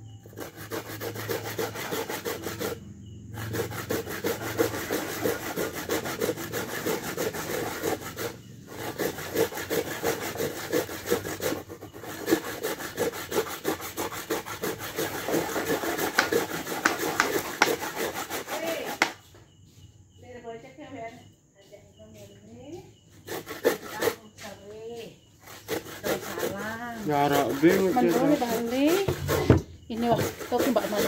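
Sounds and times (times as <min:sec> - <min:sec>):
coconut grating rasps: 0:00.0 - 0:19.3, 0:23.2 - 0:24.4, 0:25.4 - 0:31.0.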